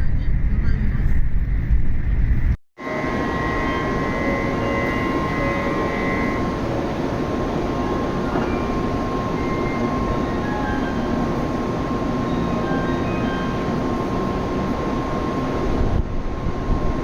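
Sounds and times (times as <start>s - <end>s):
train rumbling at speed: 0.0s - 17.0s.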